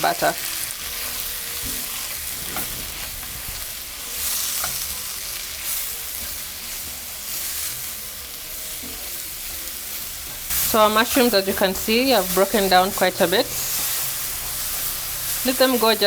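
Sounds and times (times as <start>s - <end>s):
mushrooms sizzling in a frying pan: 0.0s - 16.0s.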